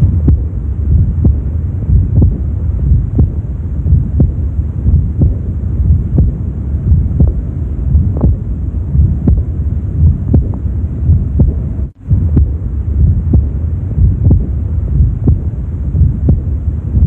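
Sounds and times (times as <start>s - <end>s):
blowing heart murmur: 0.0s - 17.0s
heartbeat thuds: 0.0s - 17.0s.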